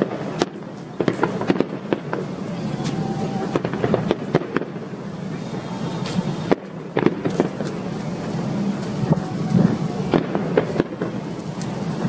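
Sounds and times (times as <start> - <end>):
constant background noise: 0.0 - 12.0
fireworks bangs and crackles: 0.0 - 12.0.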